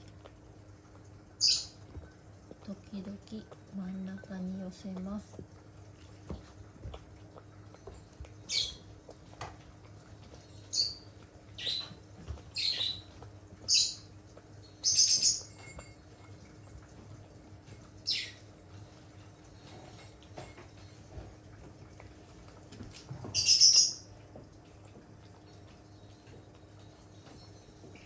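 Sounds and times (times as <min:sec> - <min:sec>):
dog licking and smacking food: 0:00.0 - 0:28.0.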